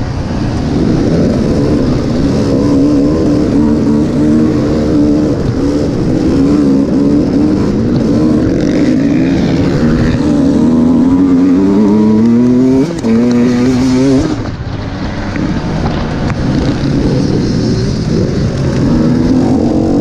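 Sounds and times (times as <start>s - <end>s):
dirt bike engine revving: 0.0s - 14.7s, 15.4s - 20.0s.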